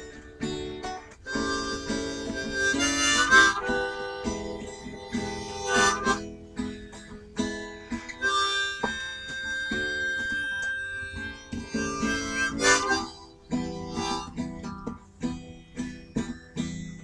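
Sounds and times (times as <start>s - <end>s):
guitar accompaniment: 0.0s - 17.0s
harmonica bending notes: 0.0s - 17.0s.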